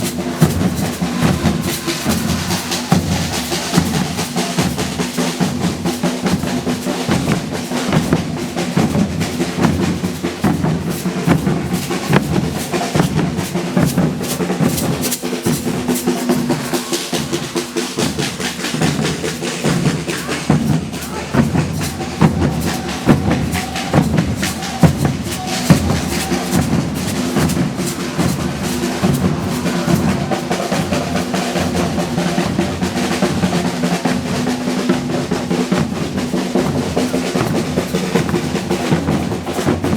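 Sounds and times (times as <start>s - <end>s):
percussion ensemble drumming: 0.0s - 39.9s.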